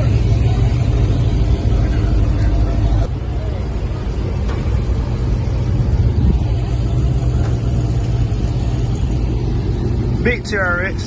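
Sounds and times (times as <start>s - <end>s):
car exhaust rumbling: 0.0s - 11.0s.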